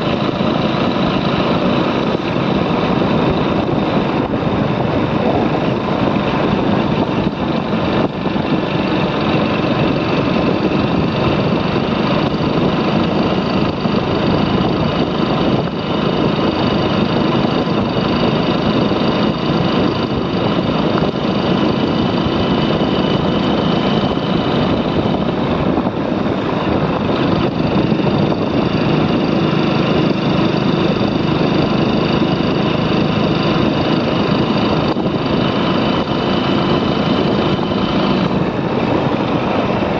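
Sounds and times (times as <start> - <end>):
motorcycle engine running: 0.0 - 39.9
road and air noise: 0.0 - 39.9.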